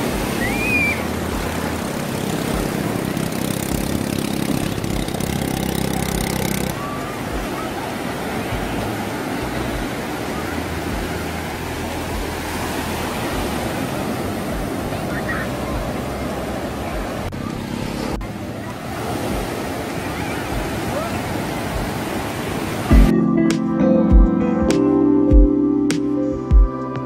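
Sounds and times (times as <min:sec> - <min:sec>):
wind rumble on microphone: 0:00.0 - 0:23.1
sea surf washing ashore: 0:00.0 - 0:23.8.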